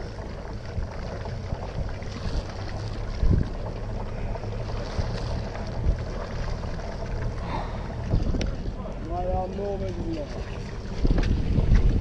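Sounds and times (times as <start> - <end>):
wind buffeting microphone: 0.0 - 7.0, 7.9 - 12.0
boat engine rumble: 0.0 - 12.0.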